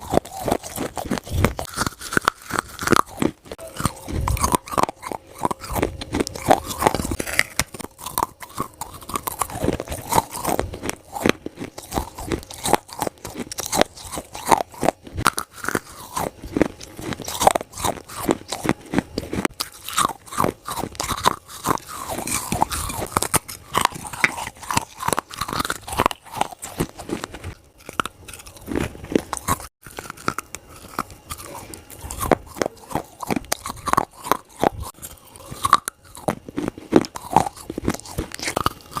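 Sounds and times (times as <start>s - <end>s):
chewing crunchy clay: 0.0s - 39.0s.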